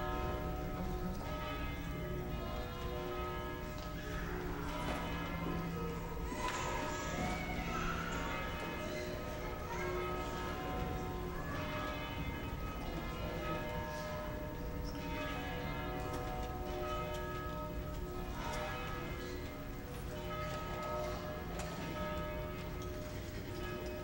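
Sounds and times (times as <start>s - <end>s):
church bells ringing: 0.0s - 24.0s.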